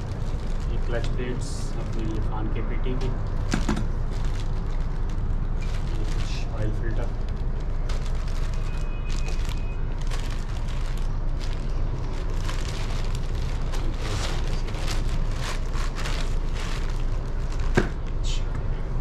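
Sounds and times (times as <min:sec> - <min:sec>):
packaging crinkling and rustling: 0:00.0 - 0:18.2
steady low rumble: 0:00.0 - 0:19.0.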